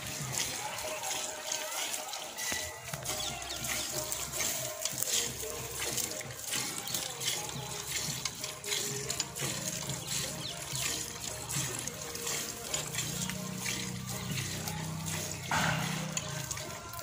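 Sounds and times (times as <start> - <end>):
milk squirting into steel pail: 0.0 - 17.0.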